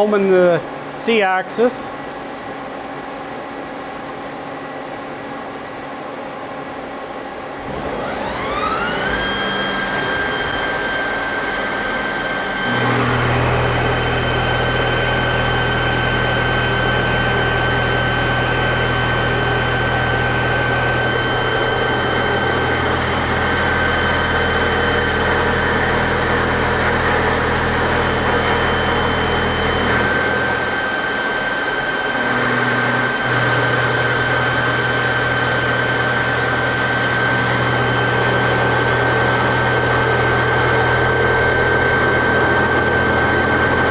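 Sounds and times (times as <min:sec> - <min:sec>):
low machine hum: 0:00.0 - 0:43.9
lathe high-pitched whine: 0:07.5 - 0:43.9.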